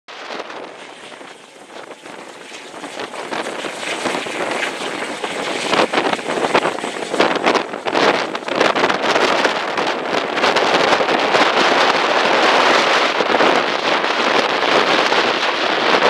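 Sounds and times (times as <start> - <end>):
helicopter flying overhead: 0.1 - 16.0.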